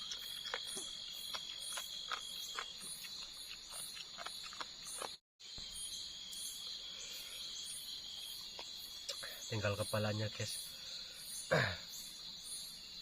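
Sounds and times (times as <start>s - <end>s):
crickets trilling: 0.0s - 13.0s
fast repeating insect chirps: 0.0s - 13.0s.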